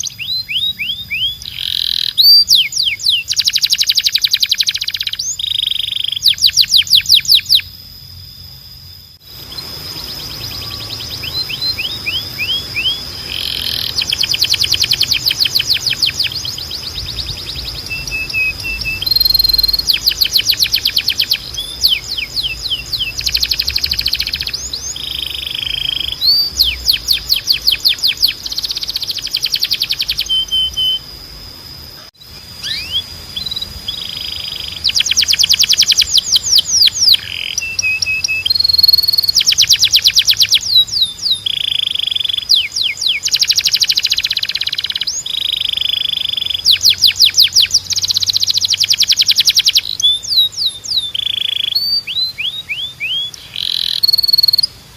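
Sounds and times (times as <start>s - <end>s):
canary singing trills: 0.0s - 54.8s.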